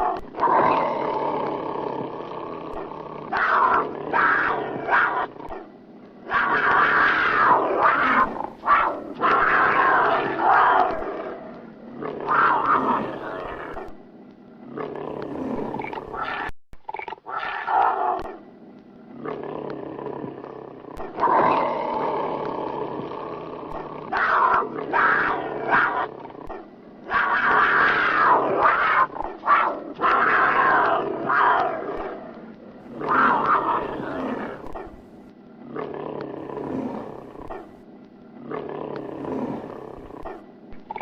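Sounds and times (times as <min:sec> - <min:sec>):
tigers roaring and growling: 0:00.0 - 0:14.0, 0:14.6 - 0:18.4, 0:19.1 - 0:37.8, 0:38.4 - 0:41.0.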